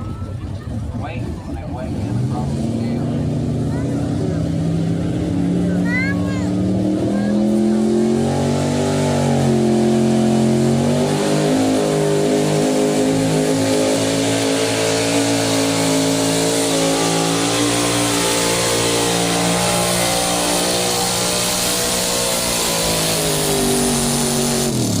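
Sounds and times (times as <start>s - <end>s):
engine running at high revs: 0.0s - 25.0s.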